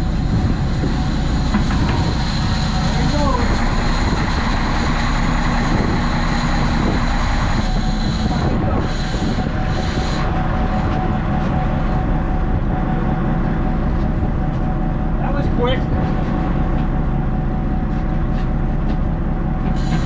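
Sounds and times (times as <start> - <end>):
boat engine rumble: 0.0 - 20.0
wind: 0.0 - 20.0.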